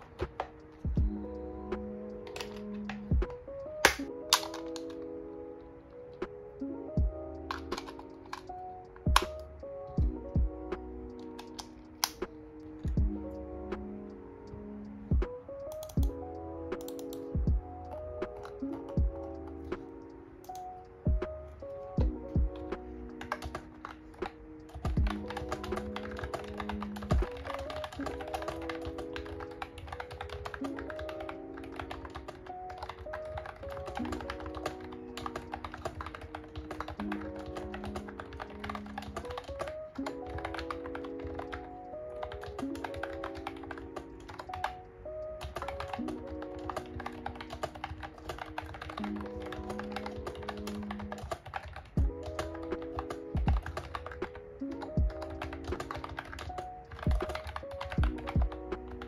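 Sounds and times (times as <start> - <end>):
keyboard typing clicks: 0.0 - 5.1, 7.4 - 13.8, 15.6 - 59.0
lofi background music: 0.0 - 59.0.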